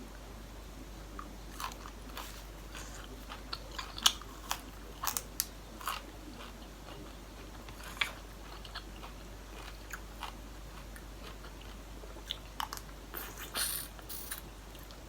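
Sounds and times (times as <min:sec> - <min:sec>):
crunchy food chewing: 0:01.2 - 0:15.0.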